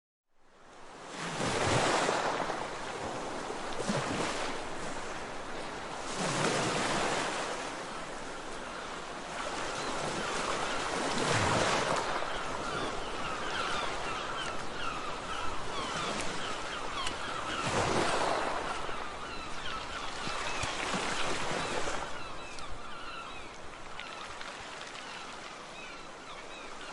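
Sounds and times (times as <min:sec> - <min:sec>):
sea waves washing in: 0:00.8 - 0:26.9.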